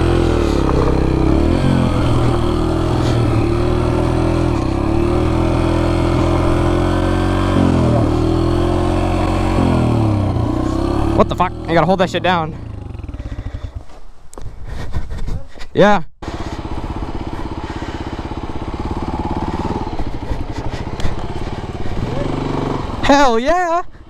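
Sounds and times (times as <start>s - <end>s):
dirt bike engine at low revs: 0.0s - 24.0s.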